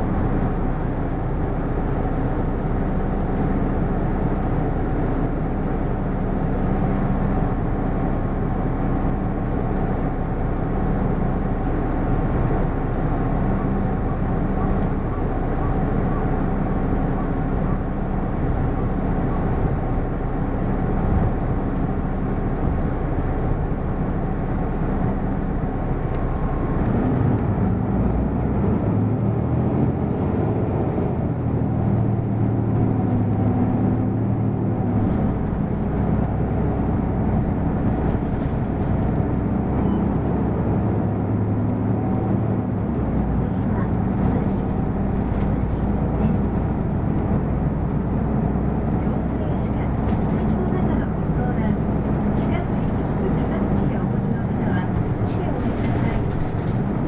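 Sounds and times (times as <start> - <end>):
bus diesel engine running: 0.0 - 57.0
road and cabin noise: 0.0 - 57.0.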